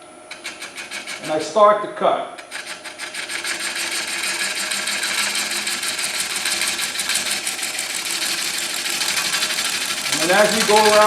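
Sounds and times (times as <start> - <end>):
gouge cutting wood on lathe: 0.3 - 11.0.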